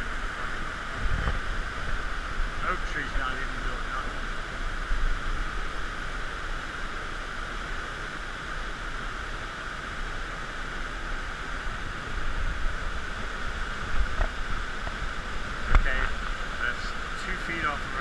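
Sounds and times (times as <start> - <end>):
water rushing in a creek: 0.0 - 18.0.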